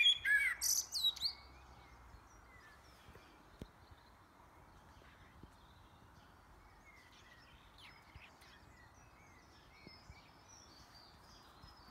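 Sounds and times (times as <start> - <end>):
faint bird song: 0.0 - 11.9.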